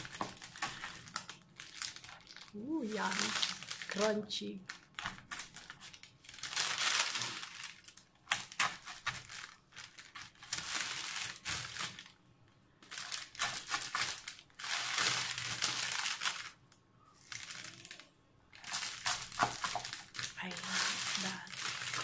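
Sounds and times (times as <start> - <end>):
paper crinkling: 0.0 - 12.2, 12.8 - 16.6, 17.2 - 22.0.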